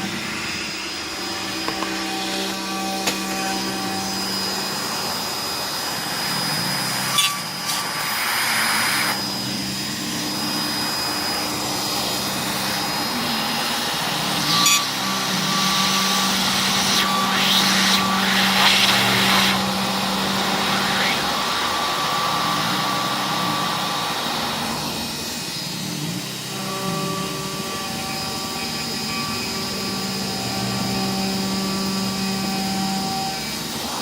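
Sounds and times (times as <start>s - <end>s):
router spindle whining: 0.0s - 34.0s.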